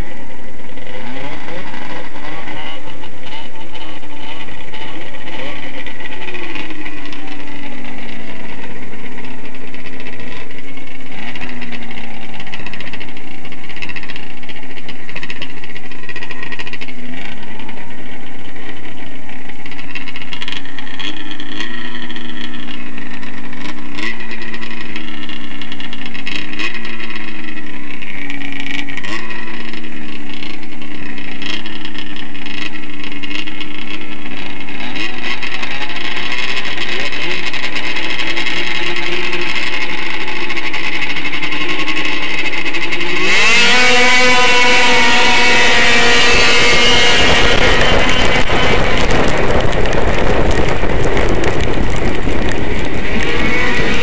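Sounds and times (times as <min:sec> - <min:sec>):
snowmobile engine running hard: 0:00.0 - 0:54.0.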